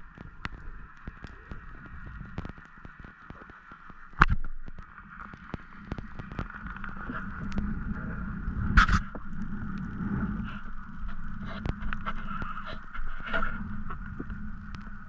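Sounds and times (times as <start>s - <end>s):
crackle of small clicks: 0.0s - 15.0s
underwater hiss and rumble: 0.0s - 15.0s.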